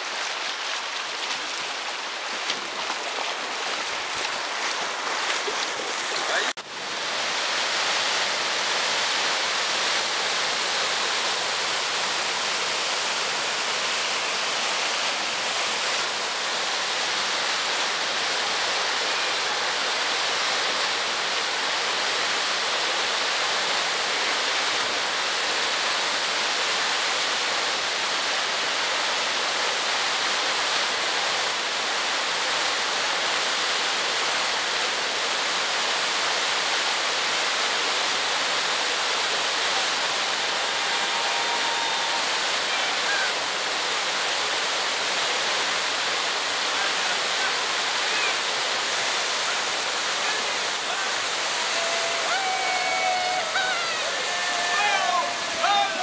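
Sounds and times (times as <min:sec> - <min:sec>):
river rapids rushing: 0:00.0 - 0:56.0.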